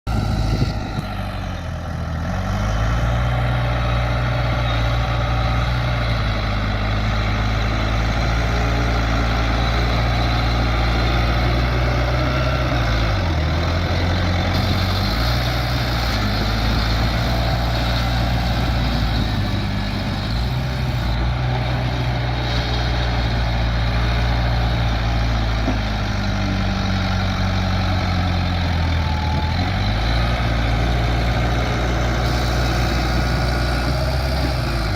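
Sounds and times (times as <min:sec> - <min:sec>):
bulldozer diesel engine running: 0:00.1 - 0:34.9.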